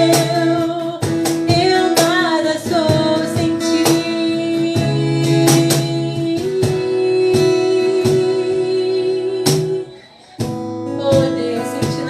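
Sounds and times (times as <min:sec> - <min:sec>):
guitar strumming chords: 0:00.0 - 0:12.0.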